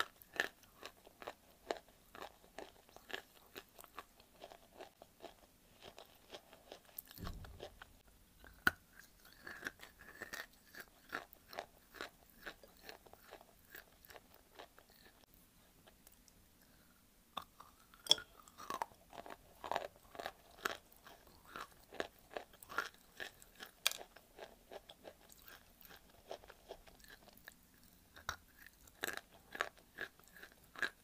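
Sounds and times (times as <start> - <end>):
crunching and chewing clay: 0.0 - 31.0.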